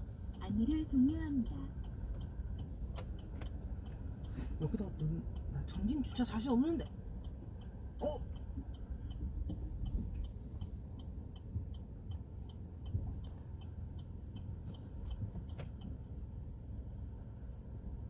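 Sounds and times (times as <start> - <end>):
low hum of car cabin: 0.0 - 18.0.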